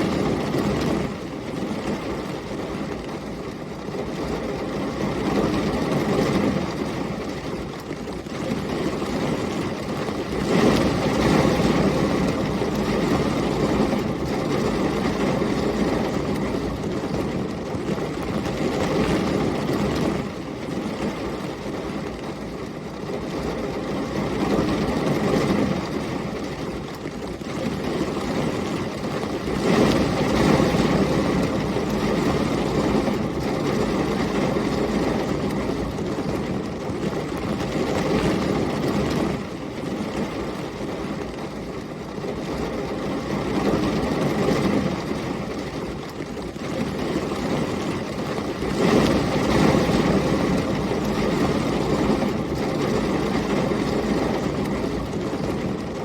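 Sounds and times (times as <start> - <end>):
heavy rain: 0.0 - 56.0
storm wind: 0.0 - 56.0.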